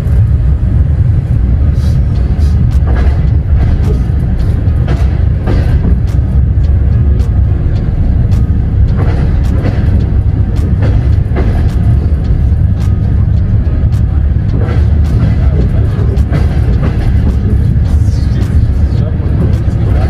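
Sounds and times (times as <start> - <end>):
music: 0.0 - 20.0
train carriage rumbling: 0.0 - 20.0
wheels and couplings clacking: 1.9 - 20.0.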